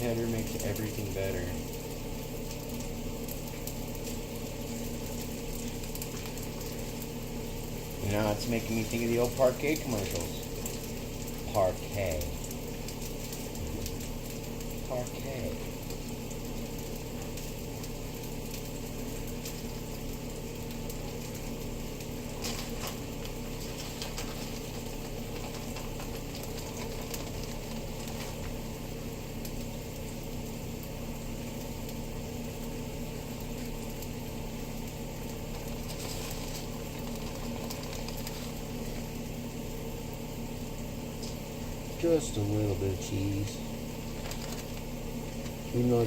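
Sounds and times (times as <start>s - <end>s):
appliance motor hum: 0.0s - 46.0s
food frying in a pan: 0.0s - 46.0s.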